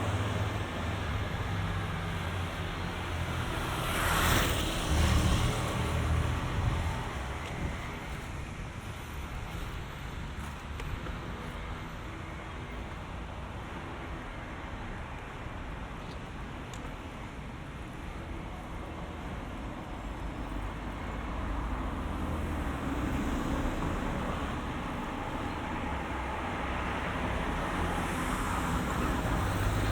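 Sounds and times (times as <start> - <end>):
road traffic noise: 0.0 - 29.9.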